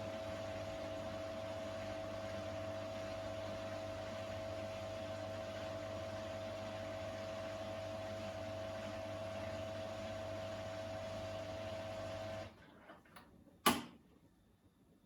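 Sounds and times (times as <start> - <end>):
washing machine drain pump humming: 0.0 - 12.6.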